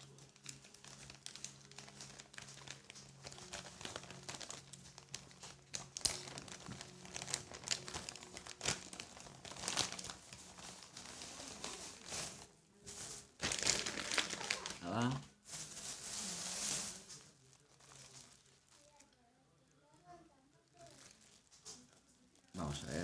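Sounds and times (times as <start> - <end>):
plastic packaging crinkling and tearing: 0.0 - 19.2, 19.8 - 23.0.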